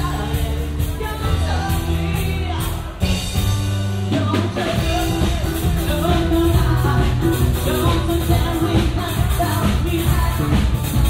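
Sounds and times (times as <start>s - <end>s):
loud rock music with singing: 0.0s - 11.0s.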